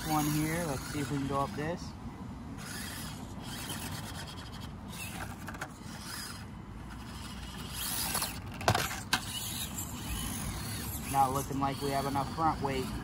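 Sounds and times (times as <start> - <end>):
tyres scraping on rock: 0.0 - 1.8, 2.6 - 13.0
toy truck motor and gearbox: 0.0 - 2.0, 2.6 - 13.0.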